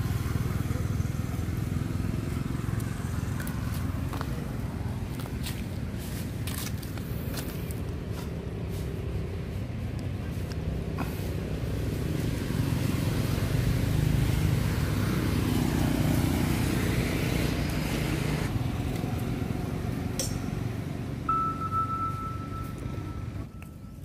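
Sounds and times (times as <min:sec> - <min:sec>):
motor vehicle engine running: 0:00.0 - 0:24.0.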